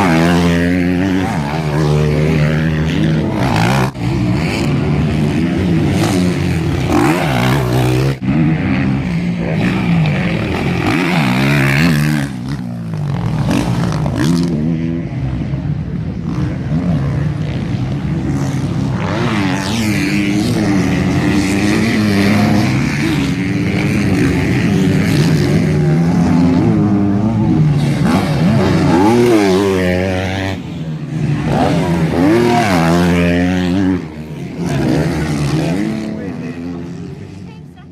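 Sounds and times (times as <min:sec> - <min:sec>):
motocross bike engines revving: 0:00.0 - 0:37.9.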